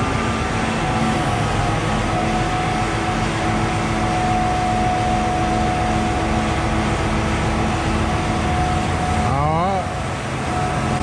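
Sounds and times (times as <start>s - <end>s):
held whine: 0.0s - 11.0s
low pulsing tone: 0.0s - 11.0s
machinery drone: 0.0s - 11.0s.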